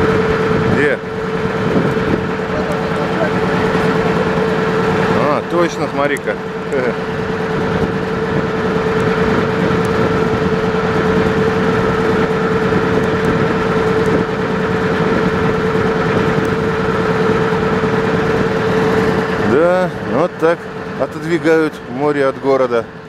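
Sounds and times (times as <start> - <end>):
motor boat engine droning: 0.0 - 23.0.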